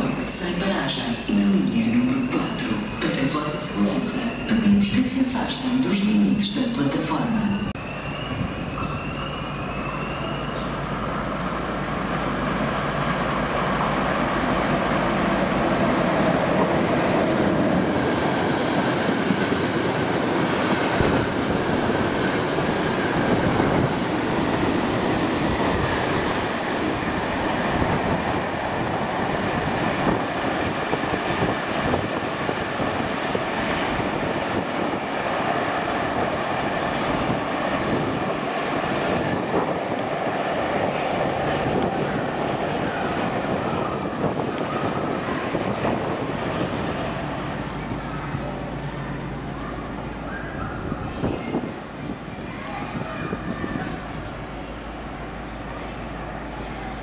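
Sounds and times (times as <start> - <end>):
train wheels on rails: 7.6 - 57.0.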